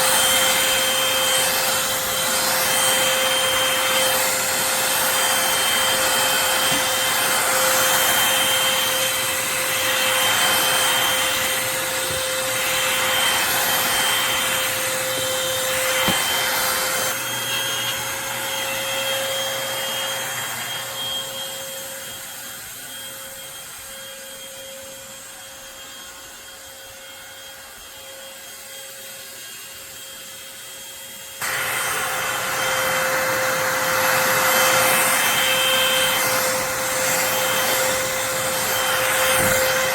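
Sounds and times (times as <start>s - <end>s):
stick vacuum whining: 0.0s - 39.9s.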